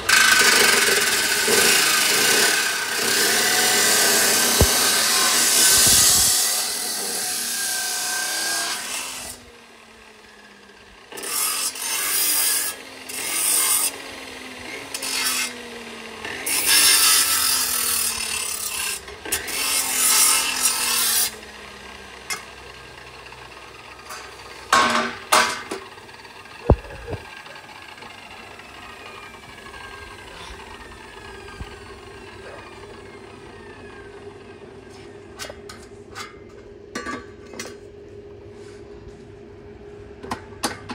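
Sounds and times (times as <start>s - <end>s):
cut-off saw grinding through steel: 0.0s - 34.0s.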